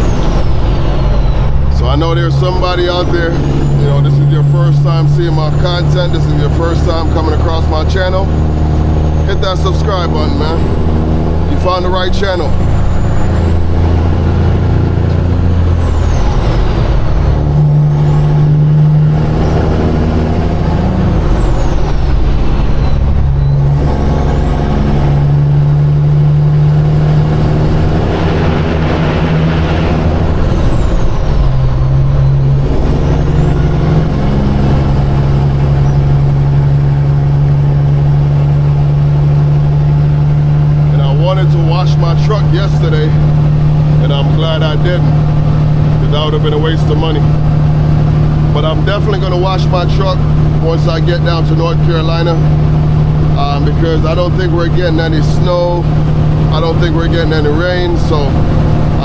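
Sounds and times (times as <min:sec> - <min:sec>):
diesel truck engine shifting gears: 0:00.0 - 0:59.0
high engine whistle: 0:00.0 - 0:59.0.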